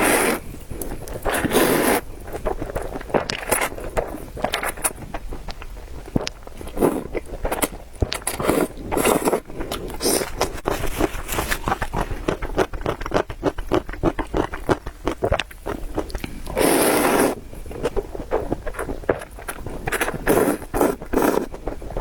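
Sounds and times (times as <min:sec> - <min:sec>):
noodle slurping: 0:00.0 - 0:05.4, 0:06.0 - 0:22.0
wet chewing: 0:00.0 - 0:22.0.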